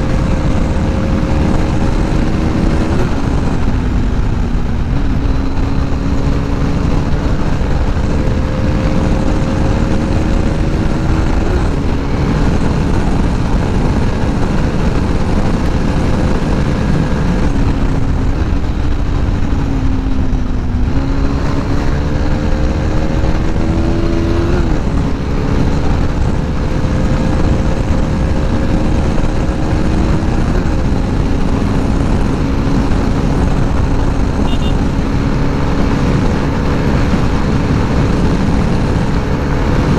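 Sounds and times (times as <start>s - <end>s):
heavy wind noise: 0.0s - 39.9s
motorcycle engine pulling hard: 0.0s - 39.9s.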